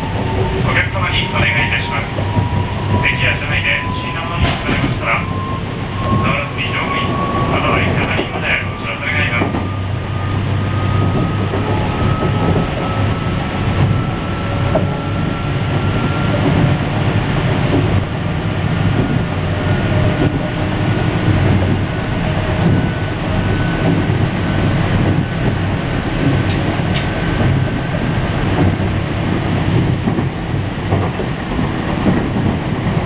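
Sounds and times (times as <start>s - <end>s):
train rumble and rushing: 0.0s - 33.0s.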